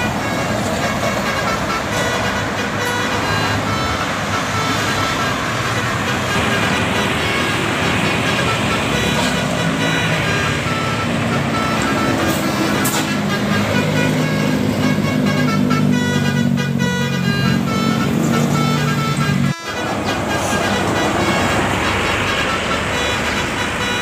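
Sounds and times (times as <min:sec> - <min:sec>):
bus engine running: 0:00.0 - 0:24.0
bus horn tooting a tune: 0:00.0 - 0:24.0
passing traffic: 0:00.0 - 0:24.0.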